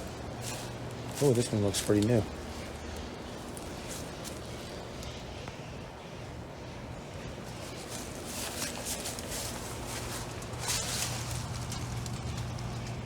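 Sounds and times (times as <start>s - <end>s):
footsteps crunching: 0.0s - 5.2s, 7.4s - 13.0s
steady low hum: 0.0s - 13.0s.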